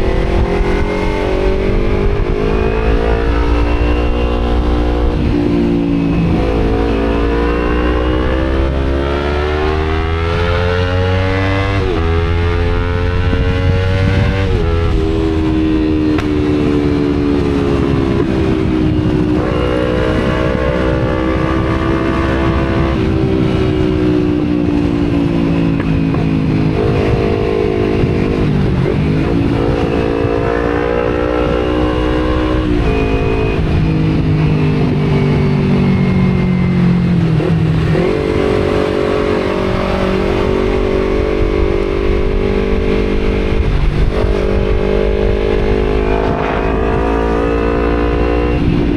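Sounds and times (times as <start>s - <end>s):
motorcycle engine revving: 0.0s - 48.9s
wind rumble on microphone: 0.0s - 48.9s.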